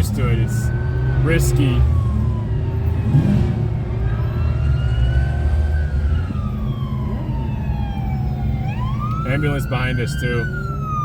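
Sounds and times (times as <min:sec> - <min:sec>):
ambulance siren wailing: 0:00.0 - 0:11.0
traffic engines rumbling: 0:00.0 - 0:11.0.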